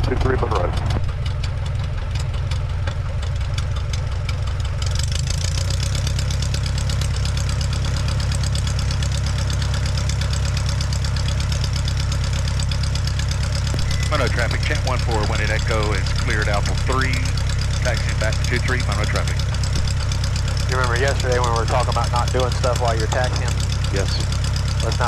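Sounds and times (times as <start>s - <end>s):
piston aircraft engine droning: 0.0s - 25.0s.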